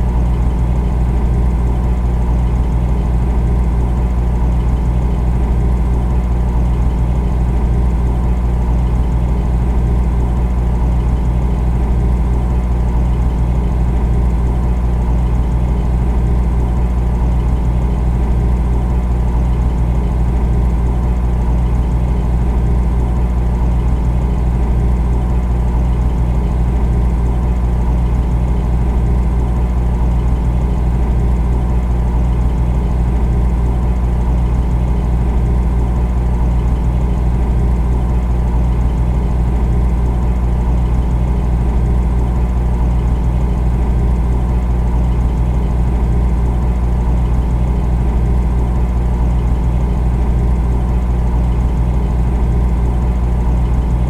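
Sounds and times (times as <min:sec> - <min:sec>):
refrigerator humming: 0:00.0 - 0:54.0.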